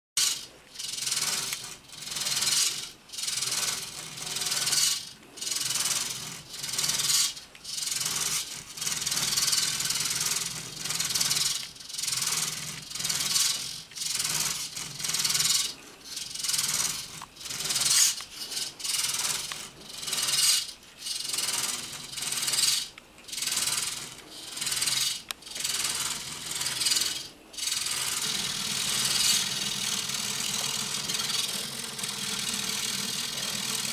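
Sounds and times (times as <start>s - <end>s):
metal scraping guitar strings: 0.2s - 33.9s.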